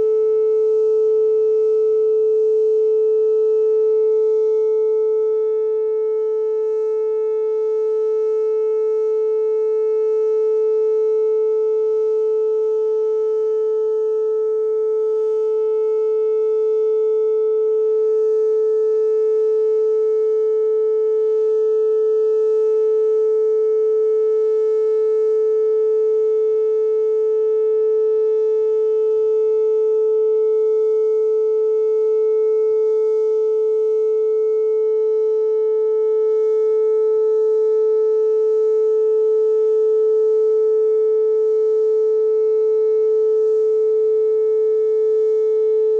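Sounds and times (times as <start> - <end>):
steady warning siren tone: 0.0 - 45.9.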